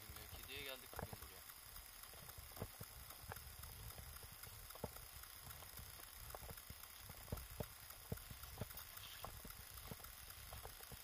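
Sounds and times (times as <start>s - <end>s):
small knocks and clicks: 2.1s - 11.0s.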